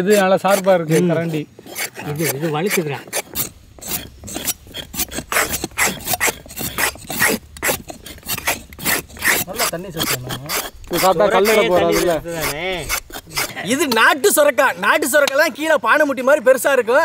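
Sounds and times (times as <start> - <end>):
spoons scraping gourd skin: 0.0 - 15.4.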